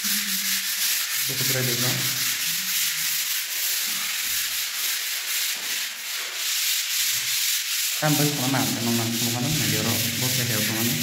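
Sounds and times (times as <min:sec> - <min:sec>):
sandpaper scratching on putty: 0:00.0 - 0:11.0.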